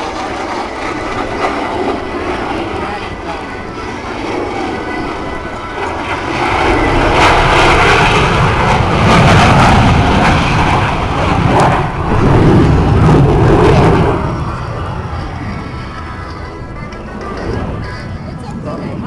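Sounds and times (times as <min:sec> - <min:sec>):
jet flying past: 0:00.0 - 0:19.0.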